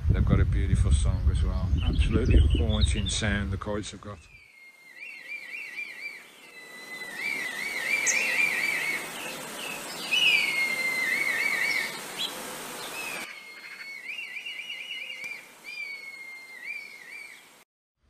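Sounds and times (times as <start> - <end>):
birds whistling trilling calls: 1.1 - 3.4, 4.0 - 17.5.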